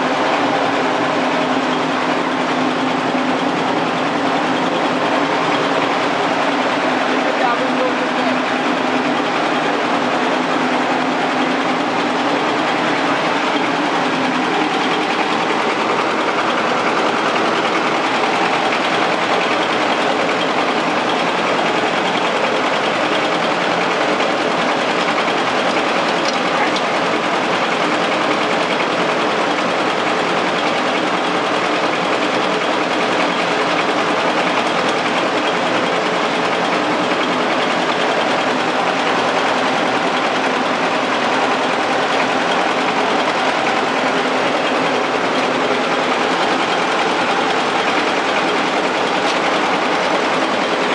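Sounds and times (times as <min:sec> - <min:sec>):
rice dryer machinery running: 0:00.0 - 0:50.9.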